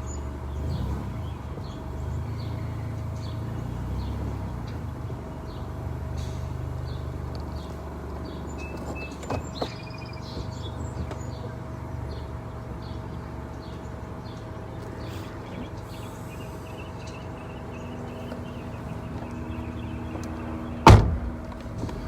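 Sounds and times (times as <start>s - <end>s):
birds chirping: 0.0s - 22.0s
car engine idling: 0.0s - 22.0s.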